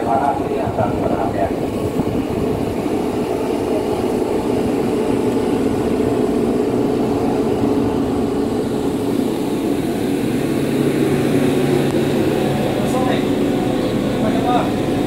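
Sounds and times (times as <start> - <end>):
heavy machinery droning: 0.0 - 15.0.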